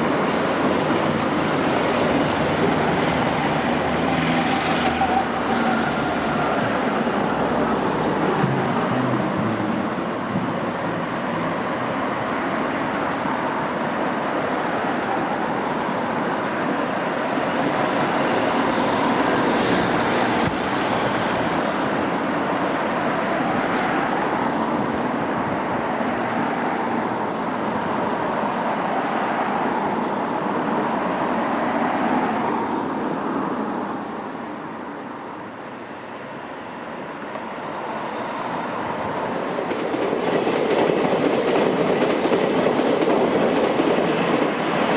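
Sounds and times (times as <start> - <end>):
approaching train: 0.0 - 44.9
passenger train rumbling past: 0.0 - 44.9.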